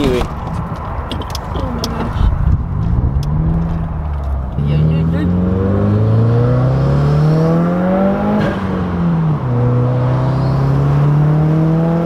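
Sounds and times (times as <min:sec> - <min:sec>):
car engine revving: 0:01.1 - 0:12.0.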